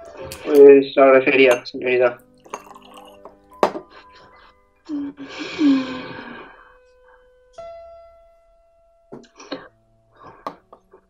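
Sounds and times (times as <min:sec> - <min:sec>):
piano notes ringing: 0:00.0 - 0:11.0.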